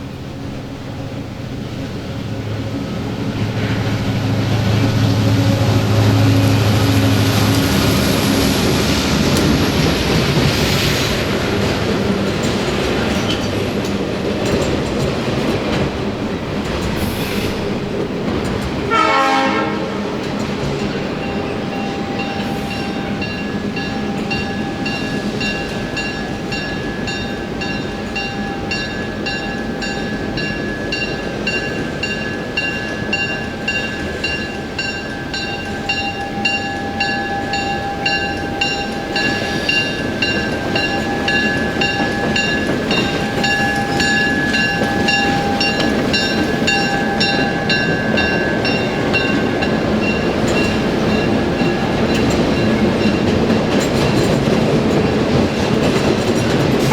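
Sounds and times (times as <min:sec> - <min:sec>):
train running on track: 0:00.0 - 0:56.9.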